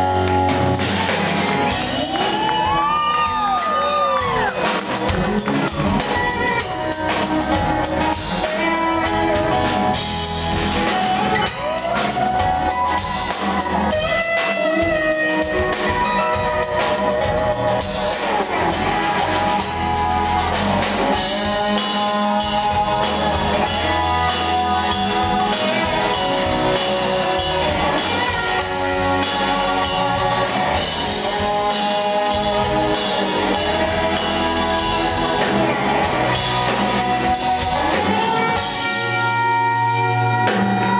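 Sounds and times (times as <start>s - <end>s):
live band playing: 0.0s - 40.9s.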